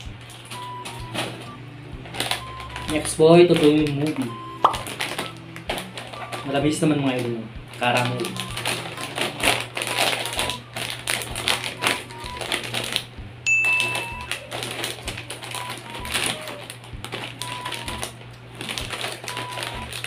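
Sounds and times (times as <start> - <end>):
light background music: 0.0 - 20.0
plastic snack bag crinkling: 2.1 - 20.0.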